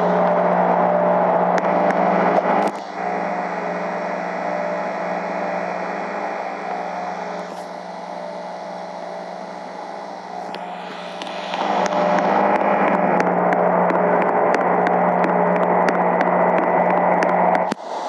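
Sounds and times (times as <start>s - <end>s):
air conditioner hum: 0.0s - 17.2s.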